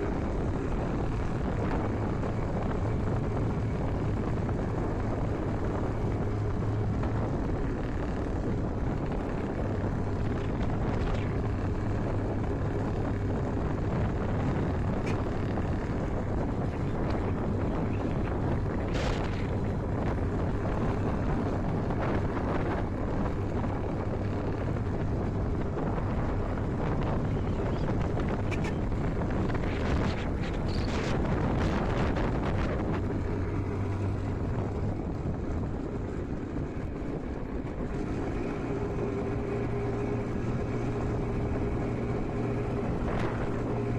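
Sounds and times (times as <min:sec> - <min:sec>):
motorcycle engine running: 0:00.0 - 0:43.9
wind on microphone: 0:00.0 - 0:43.9.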